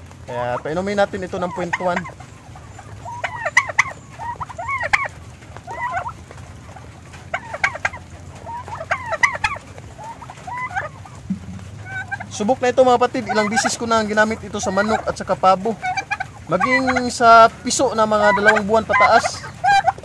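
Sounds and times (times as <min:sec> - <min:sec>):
heavy rain hiss: 0:00.0 - 0:20.0
poultry calling: 0:00.0 - 0:20.0.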